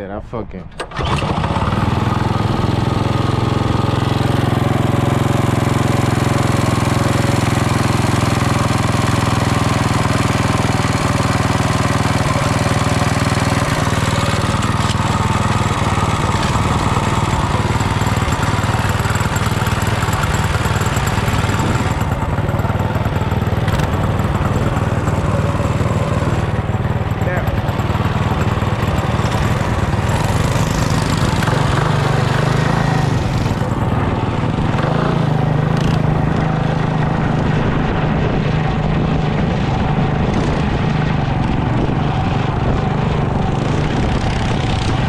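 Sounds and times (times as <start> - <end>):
mini bike engine running: 0.8 - 45.0.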